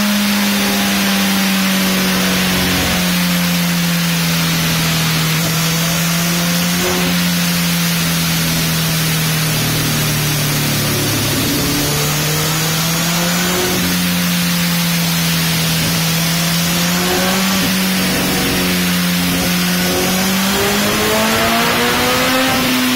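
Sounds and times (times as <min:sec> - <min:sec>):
motorcycle engine on dynamometer: 0:00.0 - 0:22.9
steady rushing hiss: 0:00.3 - 0:20.0.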